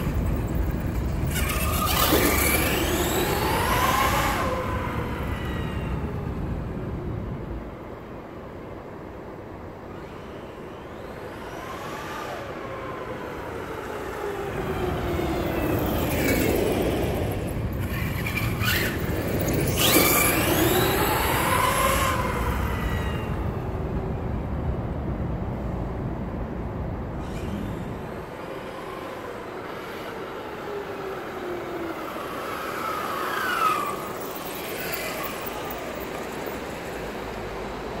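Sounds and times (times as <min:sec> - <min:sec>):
rc truck motor revving: 0:00.0 - 0:06.0, 0:10.0 - 0:23.7, 0:27.2 - 0:38.0.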